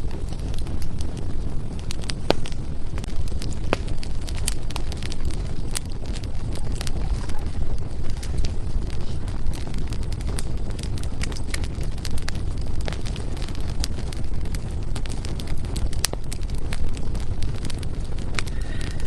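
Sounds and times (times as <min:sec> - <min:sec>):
fire low rumble: 0:00.0 - 0:19.0
firewood crackling and popping: 0:00.0 - 0:19.0.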